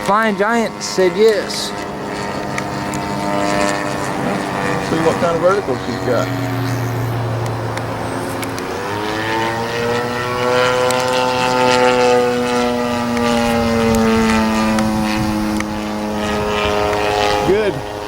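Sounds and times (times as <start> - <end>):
model plane engine at full throttle: 0.0 - 18.0.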